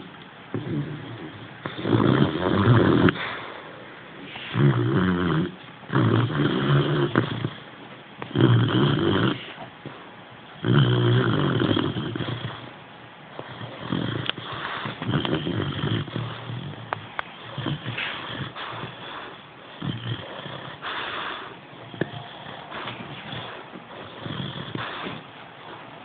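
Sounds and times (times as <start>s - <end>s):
puppy snoring: 0.0s - 10.0s, 10.6s - 26.0s.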